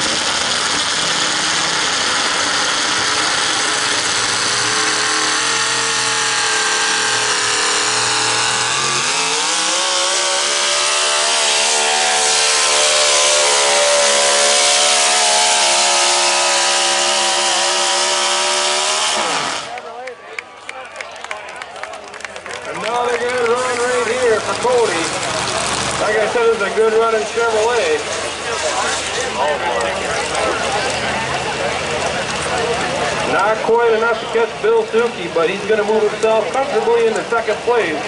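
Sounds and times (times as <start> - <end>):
truck engine revving high: 0.0 - 20.2, 22.2 - 38.0.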